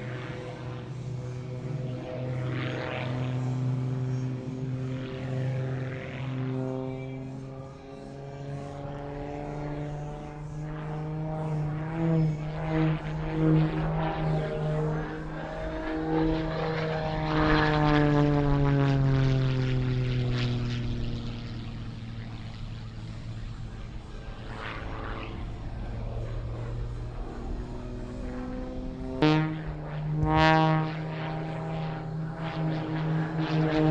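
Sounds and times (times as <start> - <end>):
propeller plane engine: 0.0 - 33.9.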